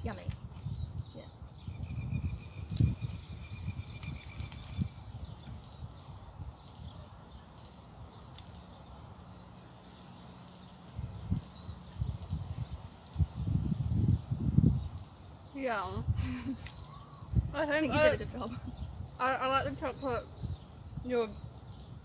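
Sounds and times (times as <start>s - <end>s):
insect chorus chirring: 0.0s - 22.0s.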